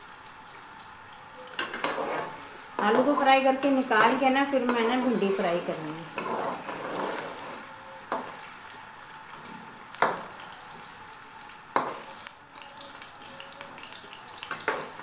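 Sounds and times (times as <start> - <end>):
potatoes sizzling in hot oil: 0.0 - 15.0.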